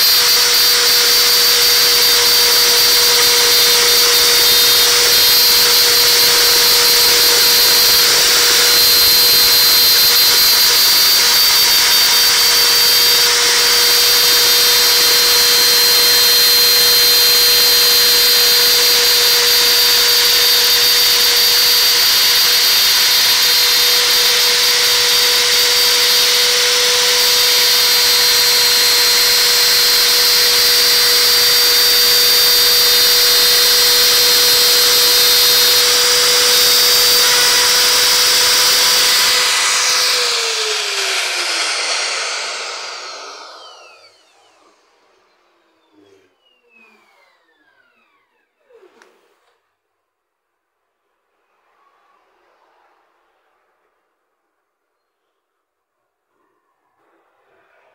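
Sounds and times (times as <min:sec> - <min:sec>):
router spindle whine: 0:00.0 - 0:48.8.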